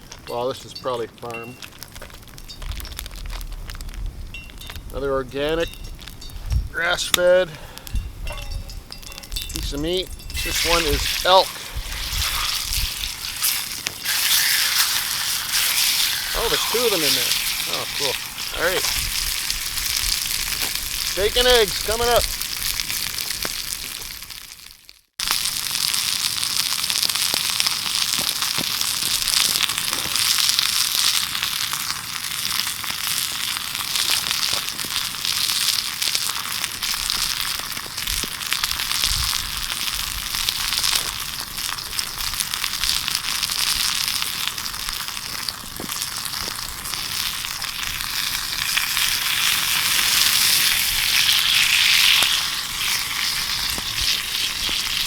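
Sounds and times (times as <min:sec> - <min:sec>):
steaks sizzling in a frying pan: 0:09.6 - 0:55.0.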